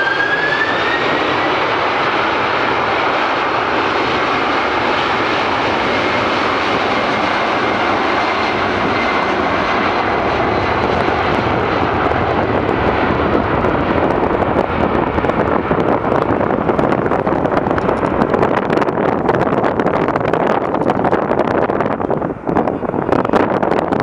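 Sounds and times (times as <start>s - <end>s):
jet engines roaring at takeoff: 0.0s - 24.0s.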